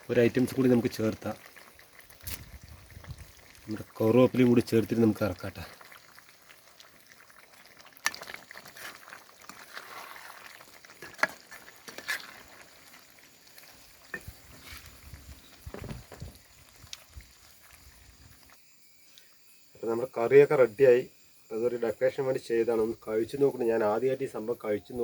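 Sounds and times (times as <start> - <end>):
curry sizzling and bubbling: 0.0 - 22.9.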